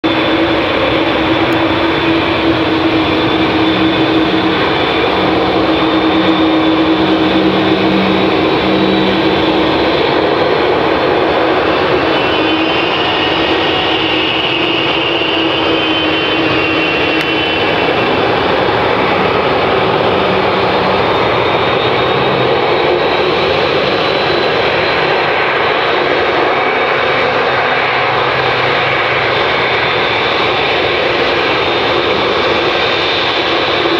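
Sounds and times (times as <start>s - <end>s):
high jet engine whine: 0.0s - 33.9s
jet engine rumble: 0.0s - 33.9s.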